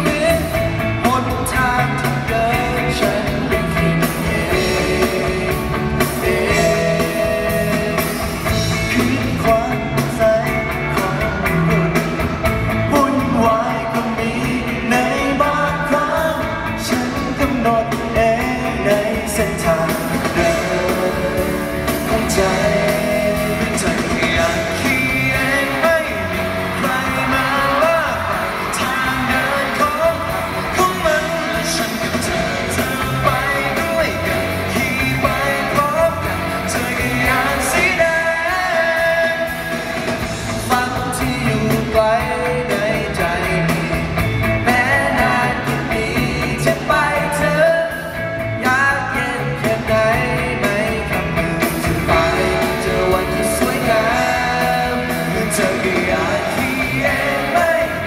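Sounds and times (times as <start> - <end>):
man singing into microphones: 0.0 - 58.0
pop rock band playing: 0.0 - 58.0.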